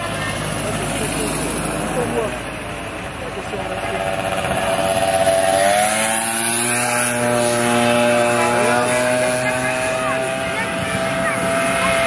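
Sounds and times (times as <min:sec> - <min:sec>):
motor scooter engine passing: 0:00.0 - 0:12.0.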